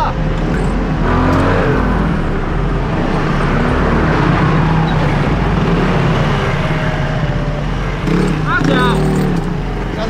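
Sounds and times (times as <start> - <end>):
car engine running loudly: 0.0 - 10.0.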